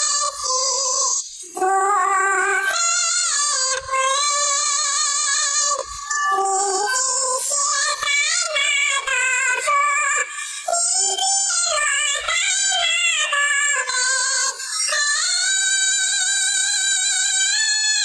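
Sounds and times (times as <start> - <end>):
high singing voice with vibrato: 0.0 - 18.0.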